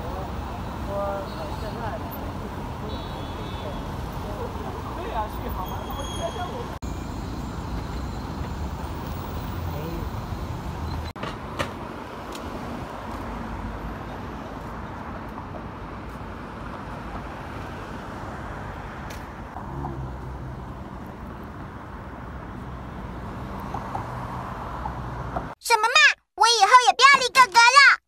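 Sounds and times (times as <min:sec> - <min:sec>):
road traffic: 0:00.0 - 0:27.9.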